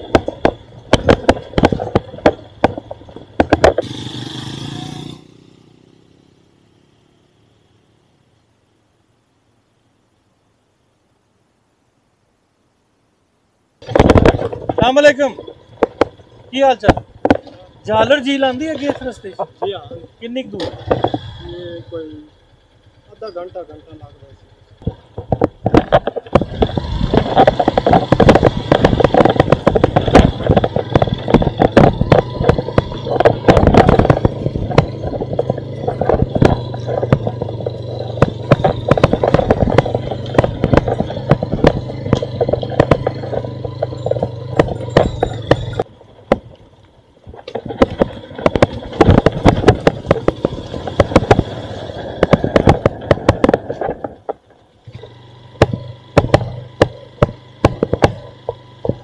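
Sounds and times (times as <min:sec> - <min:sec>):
rattling and knocks from rough ride: 0:00.0 - 0:05.4, 0:13.8 - 0:59.0
motorcycle engine running: 0:00.0 - 0:08.0, 0:13.8 - 0:59.0.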